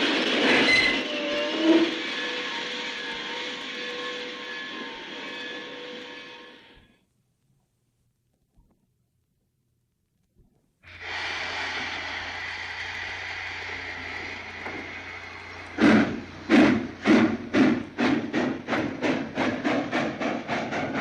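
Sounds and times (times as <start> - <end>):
steam hissing: 0.0 - 6.9, 10.9 - 21.0
steam locomotive exhaust chuffs: 0.0 - 7.0, 10.9 - 21.0.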